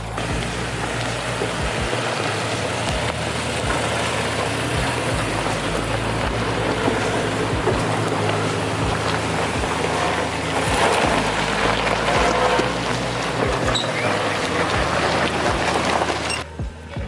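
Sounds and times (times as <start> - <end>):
dull low knocks: 0.0 - 2.2, 2.9 - 13.8, 14.8 - 17.0
steady hiss: 0.0 - 17.0
truck engine running low: 0.0 - 17.0.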